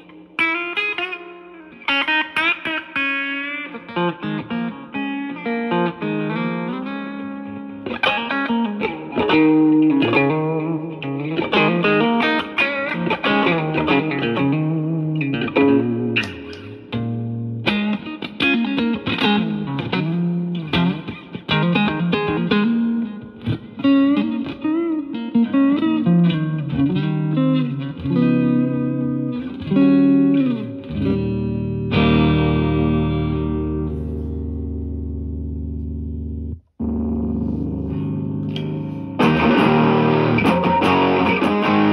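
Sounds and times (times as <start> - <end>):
electric guitar lead with bends: 0.0 - 41.9.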